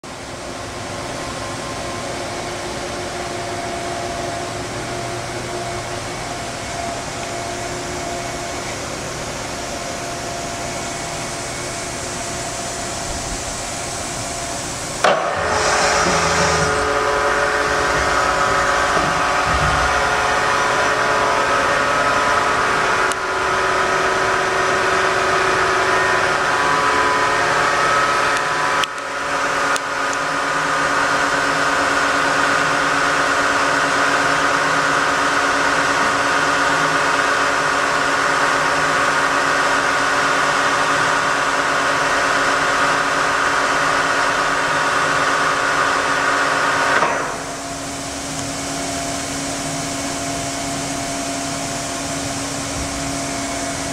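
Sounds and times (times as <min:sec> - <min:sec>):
machining center whine: 0:00.0 - 0:53.9.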